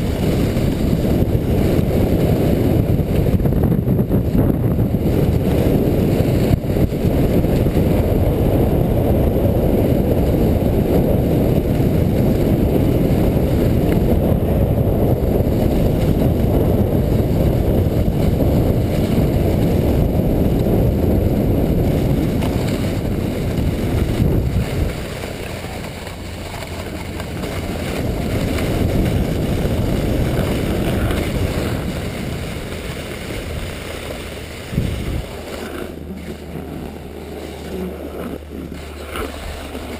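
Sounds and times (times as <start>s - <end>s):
sled bump: 0.0s - 39.9s
sled runners scraping over snow: 0.0s - 39.9s
wind buffeting microphone: 0.0s - 39.9s.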